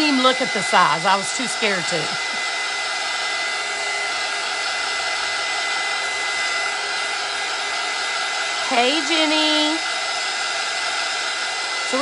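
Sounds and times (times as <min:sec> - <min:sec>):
handheld dryer blowing: 0:00.0 - 0:12.0
motor whine: 0:00.0 - 0:12.0.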